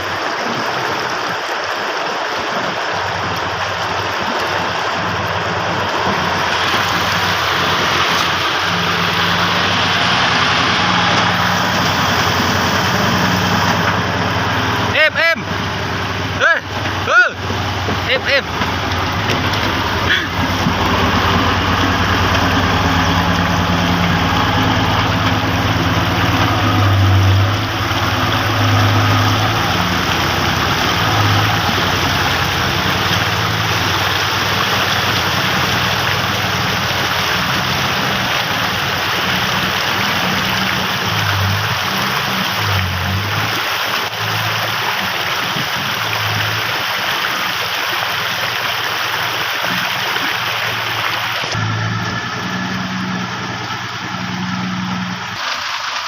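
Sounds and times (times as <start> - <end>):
heavy truck engine running: 0.0 - 56.0
water rushing: 0.0 - 56.0.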